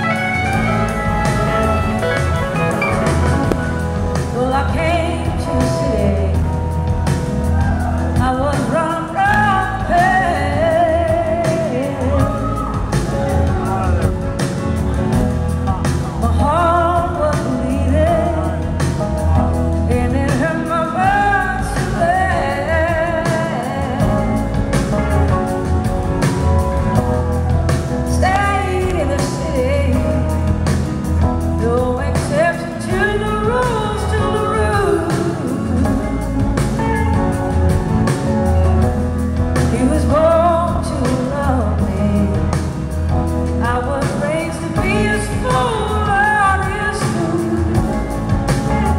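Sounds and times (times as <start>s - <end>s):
bass line: 0.0s - 48.9s
drums: 0.0s - 48.9s
electric guitar: 0.0s - 48.9s
woman singing: 3.4s - 13.2s, 15.9s - 25.5s, 28.0s - 48.9s.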